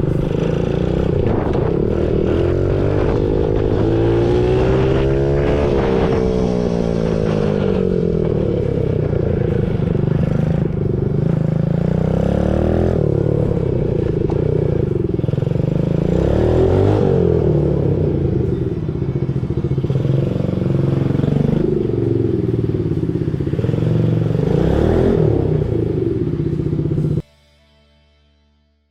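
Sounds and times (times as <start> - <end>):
dirt bike engine revving: 0.0 - 27.2.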